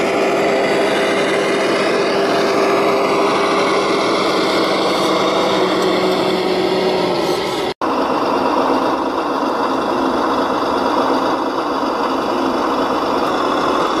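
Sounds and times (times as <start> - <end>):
toy tractor motor humming: 0.0 - 14.0.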